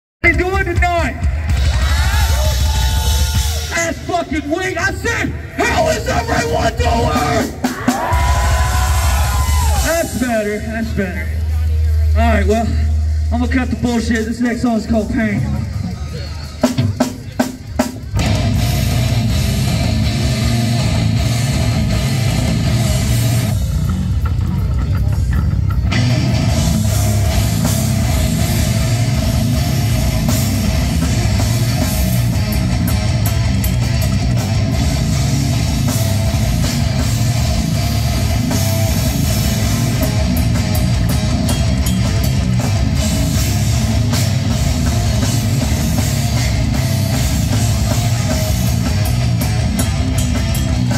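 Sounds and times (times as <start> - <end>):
heavy metal band playing: 0.2 - 50.9.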